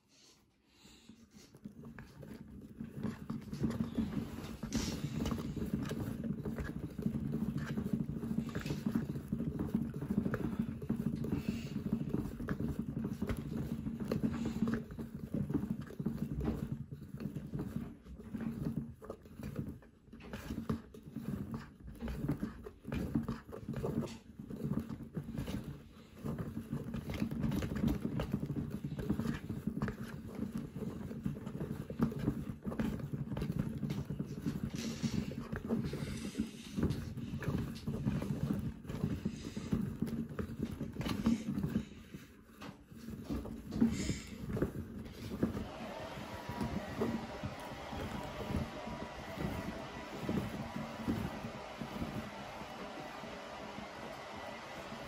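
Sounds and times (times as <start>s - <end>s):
towel tumbling in plastic drum: 1.6s - 55.0s.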